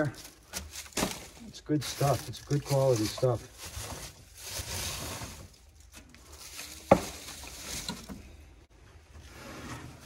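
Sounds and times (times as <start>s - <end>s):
rummaging through junk: 0.0s - 10.0s.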